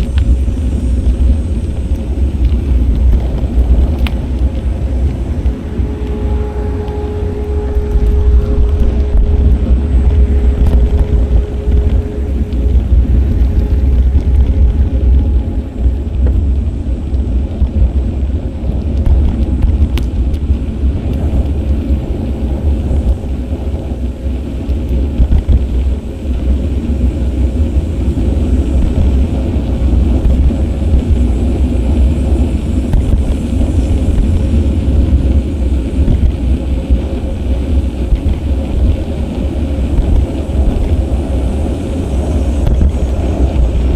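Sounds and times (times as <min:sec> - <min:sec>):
faint hum: 0:00.0 - 0:43.9
wind rumbling on microphone: 0:00.0 - 0:43.9.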